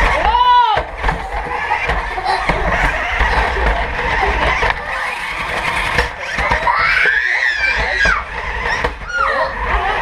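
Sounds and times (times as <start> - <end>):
remote control car whirring: 0.0 - 10.0
wheels skidding: 0.0 - 10.0.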